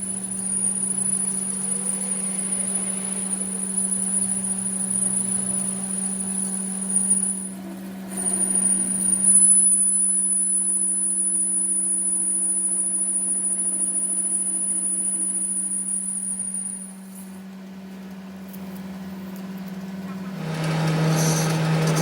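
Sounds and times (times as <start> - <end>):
high-pitched machining squeal: 0.0 - 17.4, 20.4 - 22.0
machine low hum: 0.0 - 22.0.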